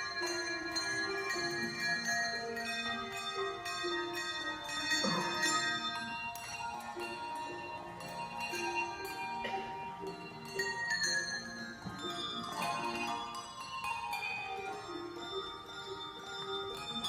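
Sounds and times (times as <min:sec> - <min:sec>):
handbells ringing: 0:00.0 - 0:17.0.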